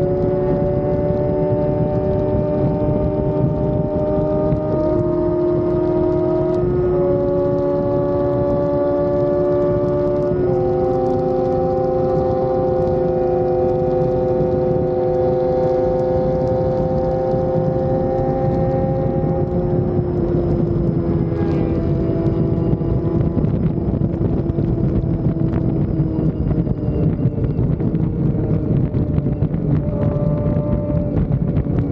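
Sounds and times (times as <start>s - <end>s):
motorcycle engine at high revs: 0.0s - 31.9s
road and wind noise: 0.0s - 31.9s.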